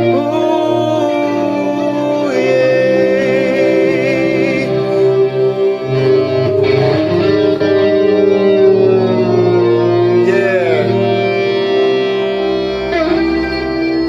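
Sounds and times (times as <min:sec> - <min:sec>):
live electric guitar music: 0:00.0 - 0:14.0.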